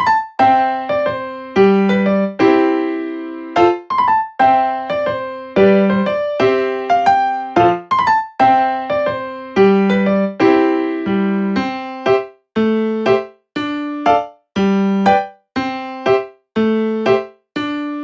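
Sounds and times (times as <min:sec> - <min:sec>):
keyboard playing light melody: 0:00.0 - 0:18.0.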